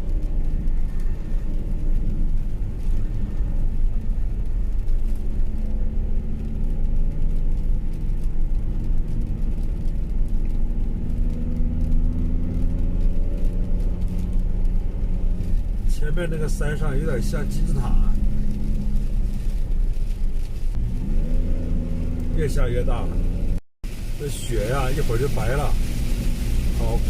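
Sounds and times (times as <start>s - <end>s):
road rumble: 0.0s - 27.0s
van engine driving: 0.0s - 27.0s.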